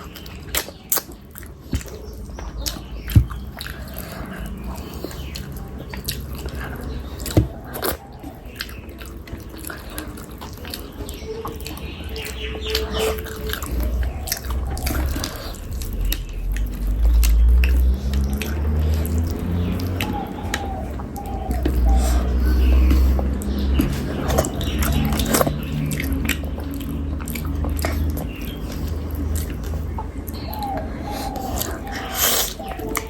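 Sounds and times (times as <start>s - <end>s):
chewing and wet mouth sounds: 0.0s - 33.0s
mouth clicks and smacks: 0.0s - 33.0s.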